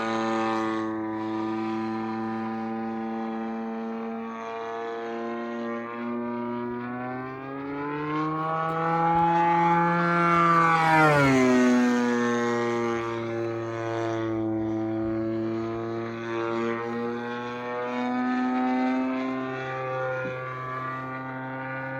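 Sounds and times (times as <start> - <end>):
model airplane engine flying past: 0.0 - 21.9.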